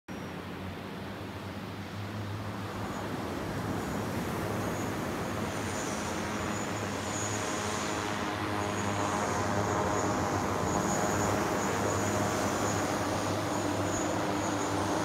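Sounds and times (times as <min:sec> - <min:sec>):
multirotor propellers humming: 0:02.0 - 0:15.0.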